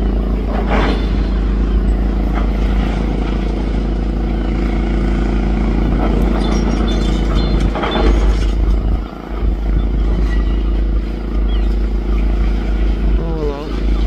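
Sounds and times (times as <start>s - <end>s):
excavator diesel engine under load: 0.0s - 14.0s.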